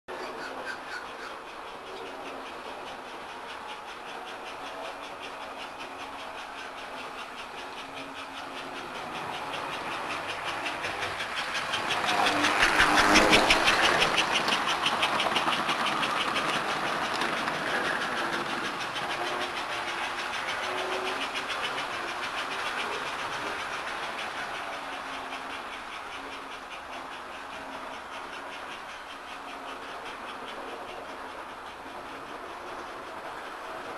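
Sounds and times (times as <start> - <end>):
model train clicking and rattling: 0.1 - 33.9.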